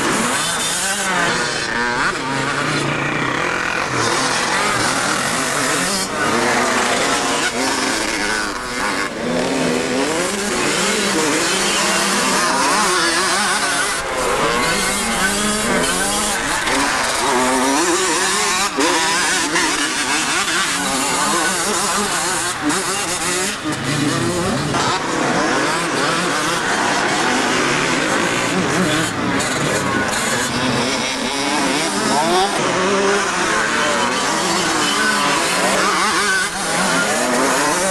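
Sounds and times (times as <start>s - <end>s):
motocross bike engines revving: 0.0s - 37.9s.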